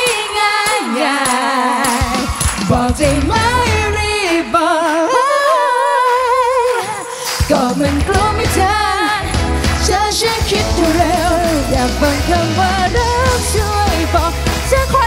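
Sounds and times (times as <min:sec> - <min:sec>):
backing music with heavy bass: 0:00.0 - 0:04.9, 0:07.4 - 0:15.0
women singing pop song: 0:00.0 - 0:15.0.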